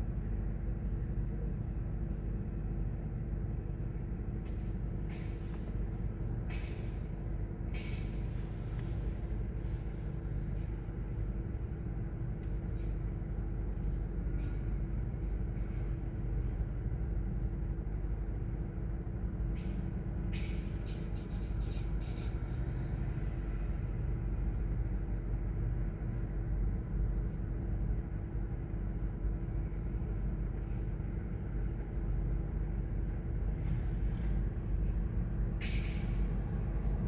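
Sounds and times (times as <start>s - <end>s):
low mechanical rumble: 0.0s - 37.0s.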